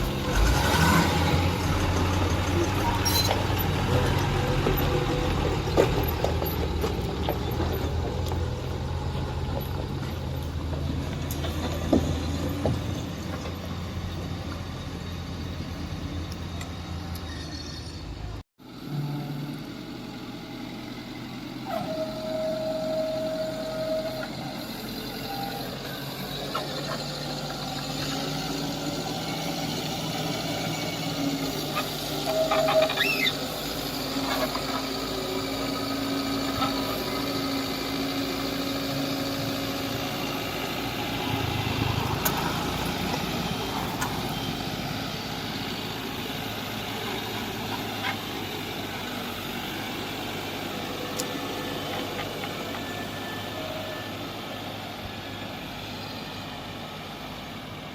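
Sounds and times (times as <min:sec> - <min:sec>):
diesel engines running: 0:00.0 - 0:57.9.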